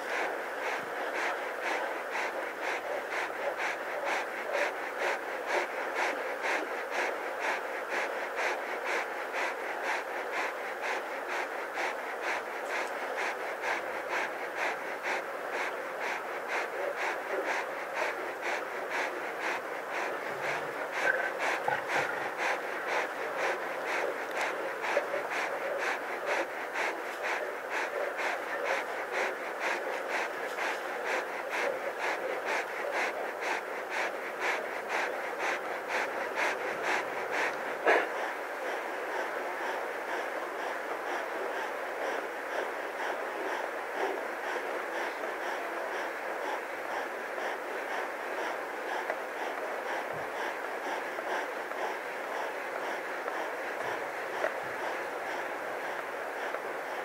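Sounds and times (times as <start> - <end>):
lion panting: 0.0 - 57.0.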